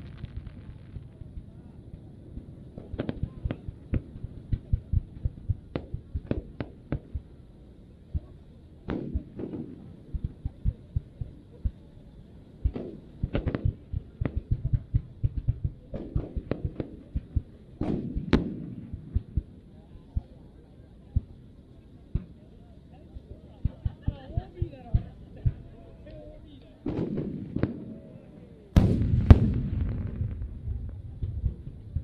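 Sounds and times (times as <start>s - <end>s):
fireworks bangs: 0.0s - 7.4s, 8.1s - 11.8s, 12.6s - 20.4s, 23.6s - 32.0s.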